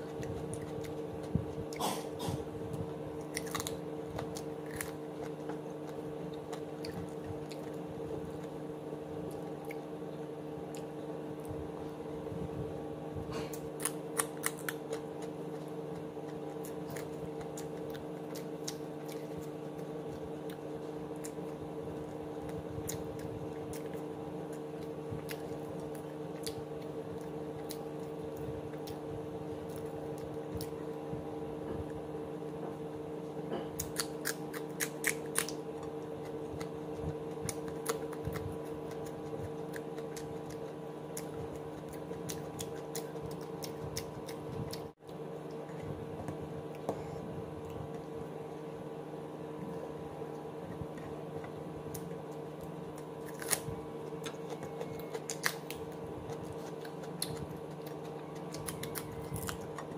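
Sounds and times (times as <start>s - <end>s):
chewing and biting food: 0.0s - 12.1s, 13.3s - 31.2s, 31.8s - 48.8s, 49.6s - 59.9s
steady low hum: 0.0s - 59.9s.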